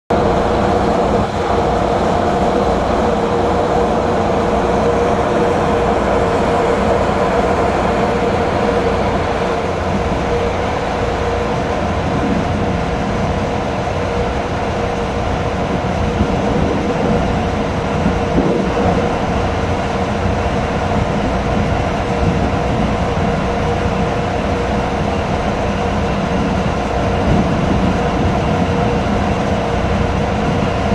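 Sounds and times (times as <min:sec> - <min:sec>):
ship engine drone: 0:00.1 - 0:30.9.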